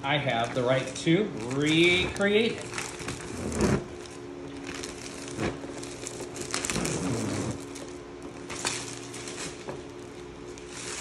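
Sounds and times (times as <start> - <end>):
plastic film crinkling: 0.1 - 11.0
film crackling as peeled: 0.2 - 11.0.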